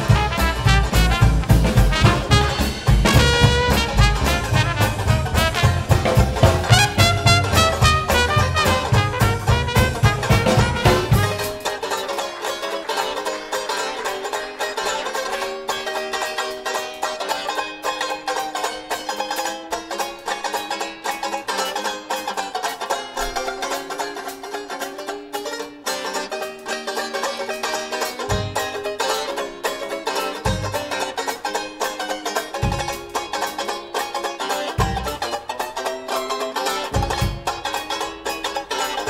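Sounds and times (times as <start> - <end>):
bass and drums: 0.0 - 17.7, 18.6 - 39.0
banjo strumming chords: 0.0 - 39.0.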